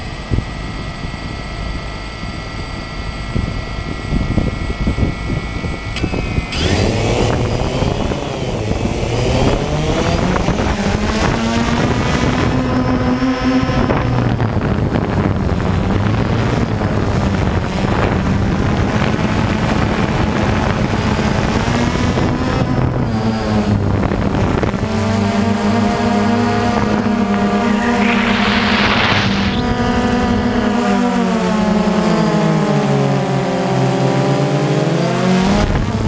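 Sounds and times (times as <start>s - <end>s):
drone propellers buzzing: 0.0s - 36.0s.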